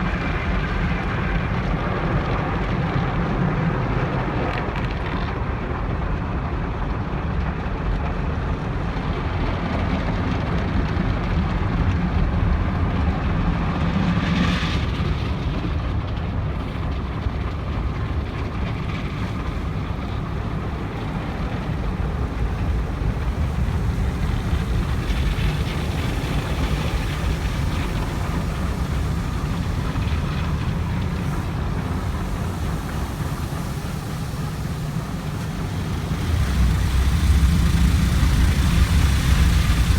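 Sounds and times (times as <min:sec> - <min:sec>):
car wash water spray and machinery: 0:00.0 - 0:39.9.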